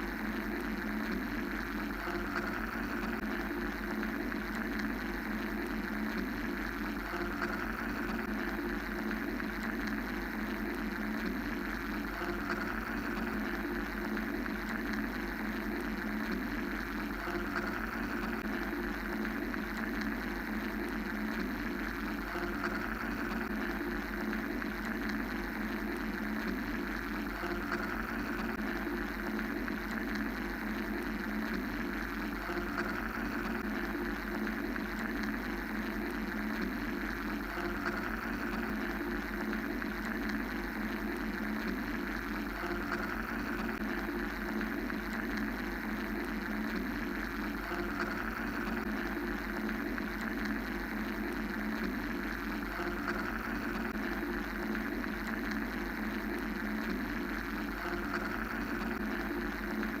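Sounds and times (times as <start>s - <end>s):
mechanical white-noise drone: 0.0s - 60.0s.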